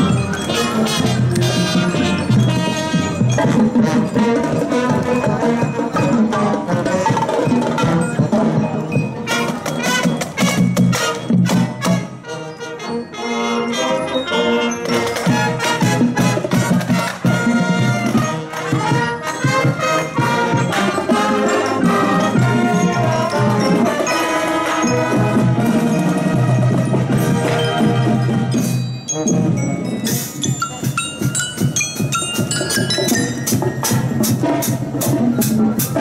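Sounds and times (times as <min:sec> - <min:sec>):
marching band drums: 0:00.0 - 0:12.4, 0:14.8 - 0:36.0
brass and trombones: 0:00.0 - 0:30.3, 0:32.9 - 0:36.0
glockenspiel notes: 0:00.0 - 0:36.0.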